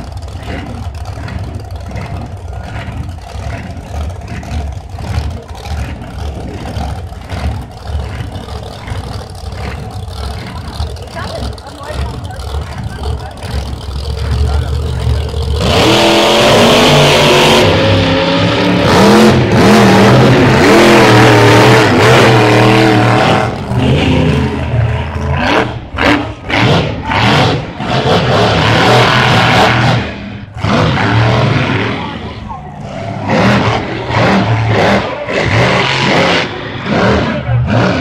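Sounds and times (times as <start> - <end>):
monster truck engines at full throttle: 0.0 - 38.0.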